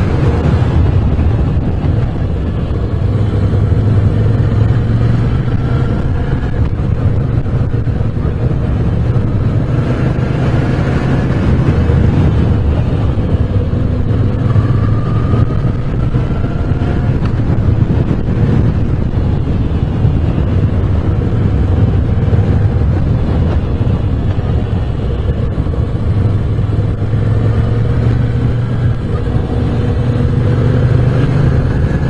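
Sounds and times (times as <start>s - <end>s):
motorcycle engine accelerating: 0.0s - 32.0s
wind noise on microphone: 0.0s - 32.0s.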